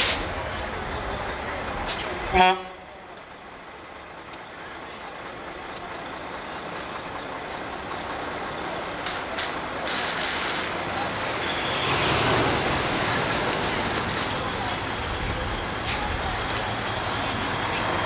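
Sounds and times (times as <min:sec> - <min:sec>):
heavy truck rumbling: 0:00.0 - 0:18.0.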